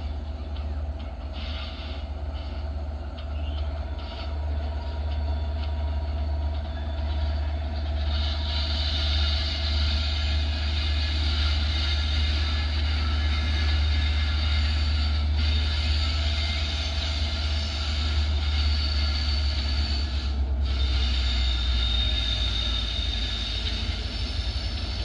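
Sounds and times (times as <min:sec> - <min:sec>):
diesel locomotive engine drone: 0:00.0 - 0:25.0
train hissing on rails: 0:00.0 - 0:25.0.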